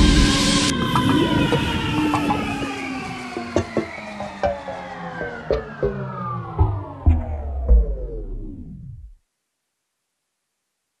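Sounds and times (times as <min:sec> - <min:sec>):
falling-pitch sound: 0:00.0 - 0:09.2.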